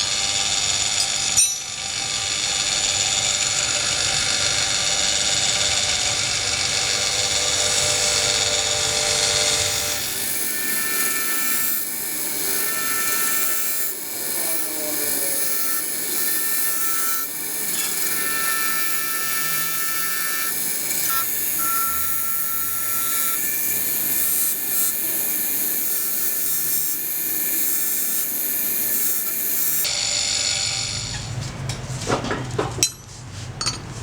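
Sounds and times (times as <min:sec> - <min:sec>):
power tool whining: 0:00.0 - 0:31.4
grinding noise: 0:00.0 - 0:32.0.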